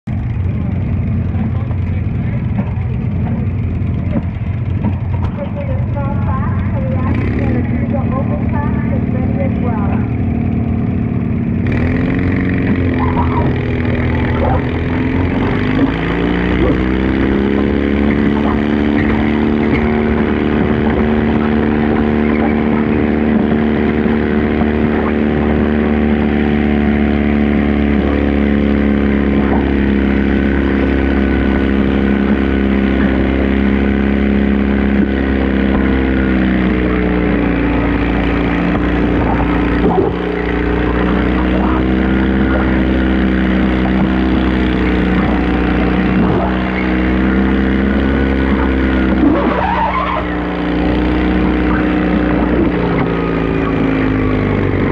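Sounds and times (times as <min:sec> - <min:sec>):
garden tractor engine under load: 0:00.1 - 0:54.9.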